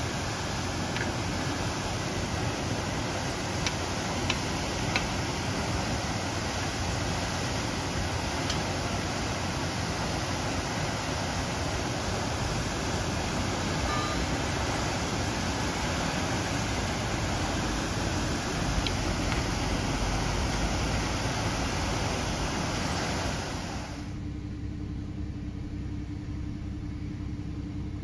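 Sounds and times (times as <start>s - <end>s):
water gushing: 0.0s - 24.2s.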